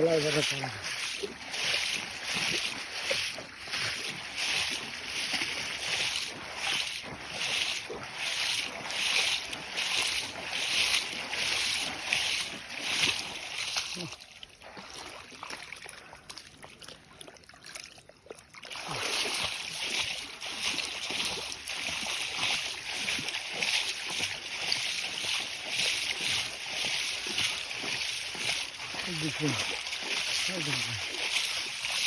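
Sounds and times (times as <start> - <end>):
wading footsteps splashing in water: 0.0 - 32.0.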